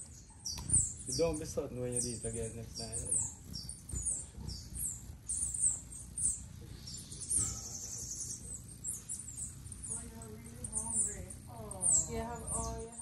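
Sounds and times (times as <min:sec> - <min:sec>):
fast chattering bird notes: 0:00.0 - 0:13.0
hummingbirds chipping: 0:00.0 - 0:13.0.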